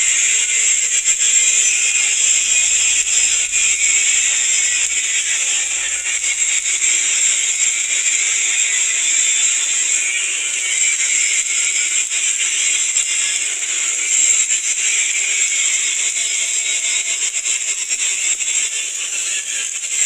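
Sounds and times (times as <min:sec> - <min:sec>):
welding arc crackling and hissing: 0:00.0 - 0:20.0.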